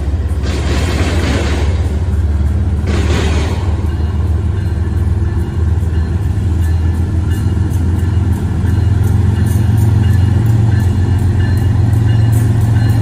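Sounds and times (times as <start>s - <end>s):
diesel locomotive engine rumbling: 0.0s - 13.0s.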